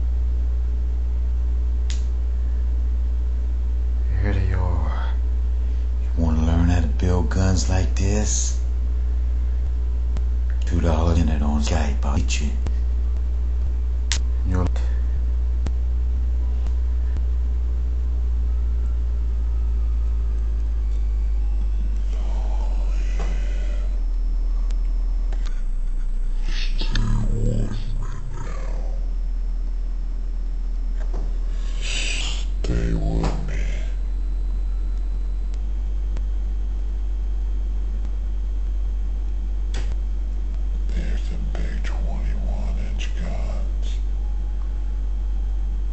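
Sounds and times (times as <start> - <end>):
faint hum: 0.0 - 45.9
low rumble: 0.0 - 45.9.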